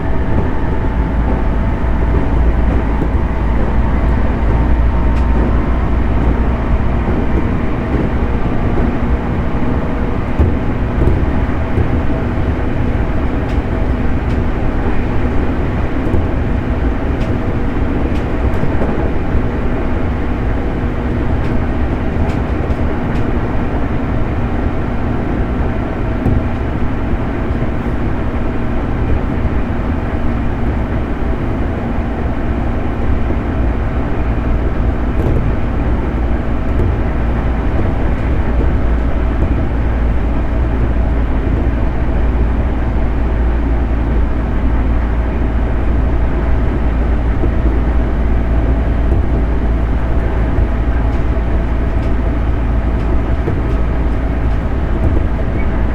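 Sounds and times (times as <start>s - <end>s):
steady hums: 0.0s - 55.9s
train wheels rumbling on rail: 0.0s - 55.9s.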